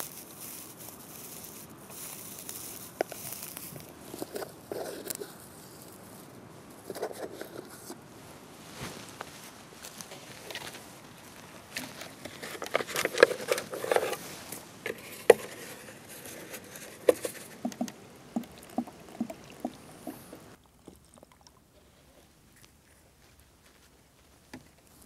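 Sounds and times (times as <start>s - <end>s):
straw rustling: 0.0s - 25.0s.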